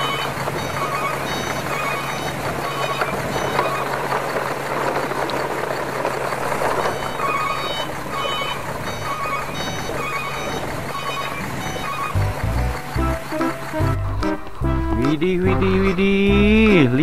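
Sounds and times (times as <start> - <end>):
music with beeping notes: 0.0 - 4.2, 6.8 - 17.0
toy trucks rolling over gravel: 0.0 - 17.0.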